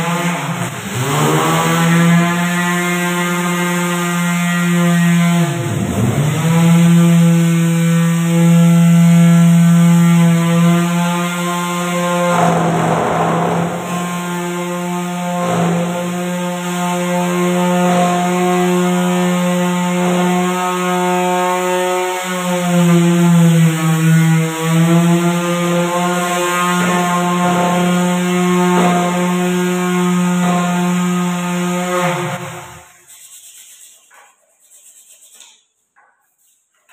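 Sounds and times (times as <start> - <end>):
electric sander on wood: 0.0 - 32.9.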